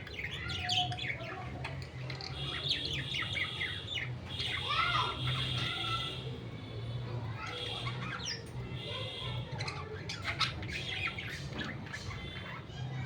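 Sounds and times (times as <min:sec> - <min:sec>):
budgerigars chirping and squawking: 0:00.0 - 0:06.6, 0:07.2 - 0:13.0.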